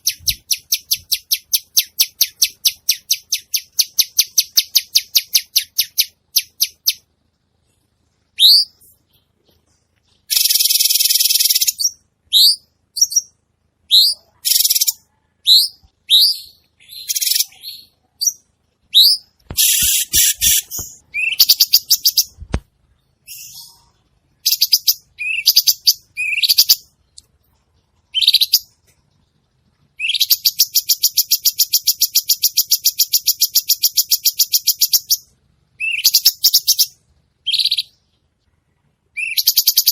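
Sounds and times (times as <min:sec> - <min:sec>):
songbird singing and trilling: 0:00.0 - 0:07.1, 0:08.3 - 0:39.9.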